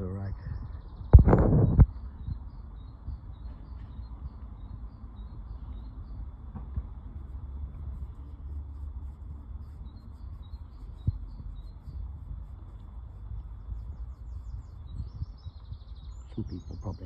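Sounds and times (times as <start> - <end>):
small bird chirping: 0.0 - 17.0
steady low rumble: 0.0 - 17.0.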